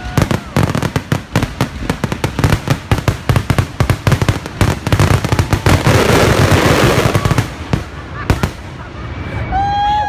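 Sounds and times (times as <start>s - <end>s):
fireworks bangs: 0.0s - 9.5s
dense fireworks crackling: 0.0s - 10.0s.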